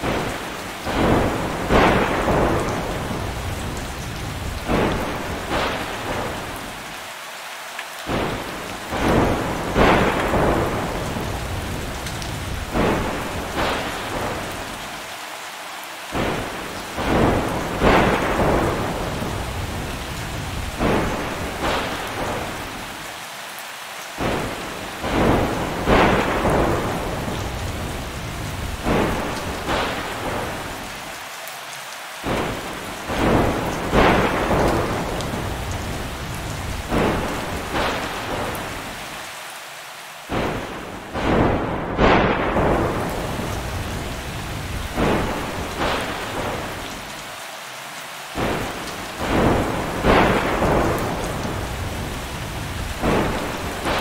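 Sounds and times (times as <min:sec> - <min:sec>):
thunder cracks and rumbles: 0:00.0 - 0:06.7, 0:08.1 - 0:14.8, 0:16.1 - 0:22.9, 0:24.2 - 0:30.9, 0:32.2 - 0:39.0, 0:40.3 - 0:47.0, 0:48.4 - 0:54.0
steady rain: 0:00.0 - 0:54.0.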